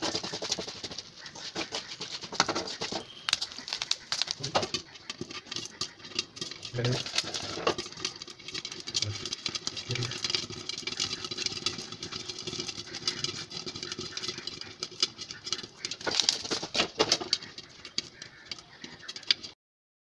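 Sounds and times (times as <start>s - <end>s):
grains popping in a pan: 0.0s - 19.6s.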